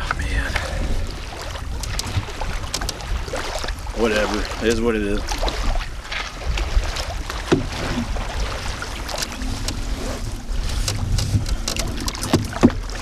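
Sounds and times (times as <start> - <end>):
water splashing against canoe: 0.0 - 13.0
wind buffeting microphone: 0.0 - 13.0.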